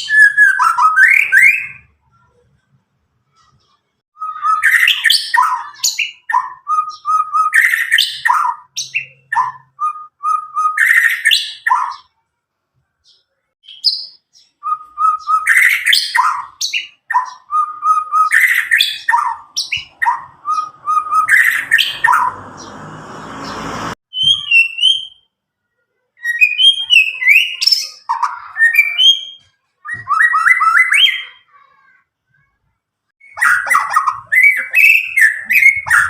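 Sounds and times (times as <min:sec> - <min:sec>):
bird singing varied phrases: 0:00.0 - 0:02.4, 0:03.3 - 0:12.3, 0:12.9 - 0:25.4, 0:26.2 - 0:32.4, 0:33.2 - 0:36.0.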